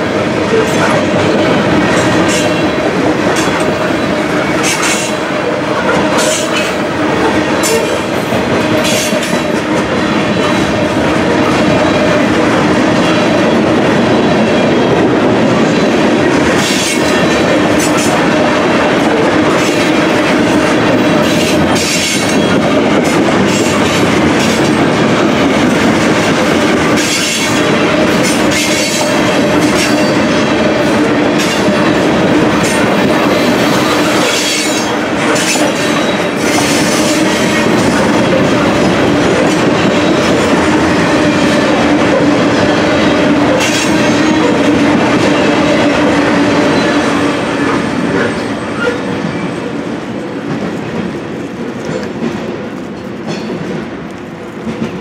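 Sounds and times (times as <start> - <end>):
wheels clacking over rail joints: 0.0 - 13.6, 14.3 - 49.5
train wheels rushing on rails: 0.0 - 55.0.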